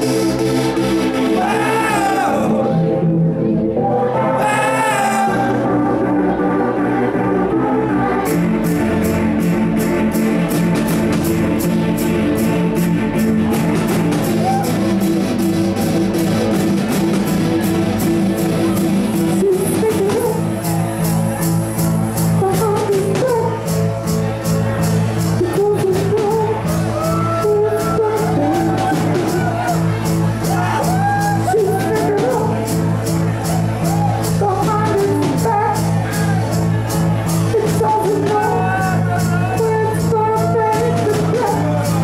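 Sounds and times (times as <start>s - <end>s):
steady drumbeat: 8.3s - 42.0s.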